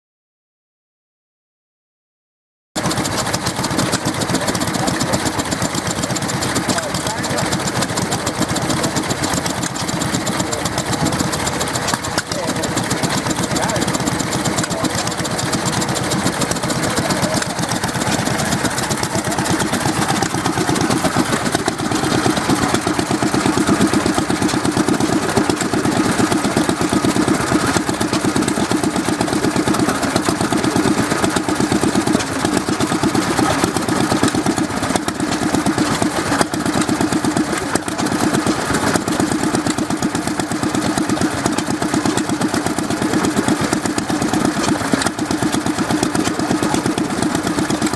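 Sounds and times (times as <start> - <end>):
stationary engine running: 2.8 - 47.9.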